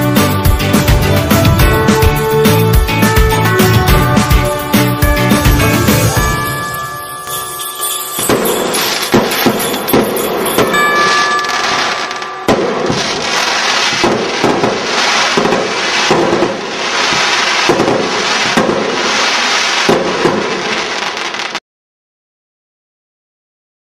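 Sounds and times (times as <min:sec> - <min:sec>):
fireworks crackling: 0:00.6 - 0:21.6.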